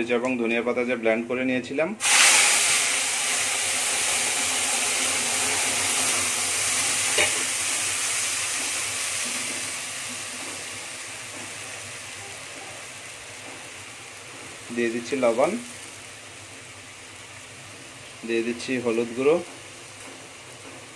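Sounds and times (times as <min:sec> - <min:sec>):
paste sizzling in hot oil: 0:02.0 - 0:20.9.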